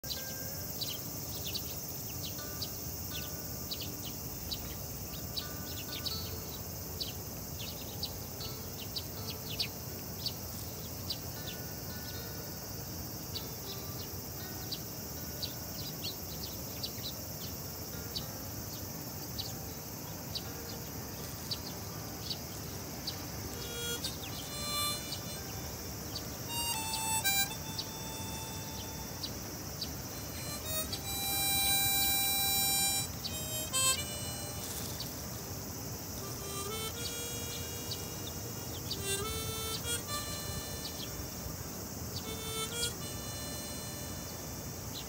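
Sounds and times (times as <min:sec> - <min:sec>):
high-pitched insect drone: 0:00.0 - 0:45.0
sparrows chirping: 0:00.0 - 0:45.0.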